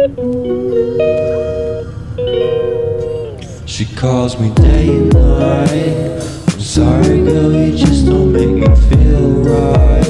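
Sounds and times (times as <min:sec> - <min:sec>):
guitar picking held notes: 0:00.0 - 0:10.0
low hum: 0:00.0 - 0:10.0.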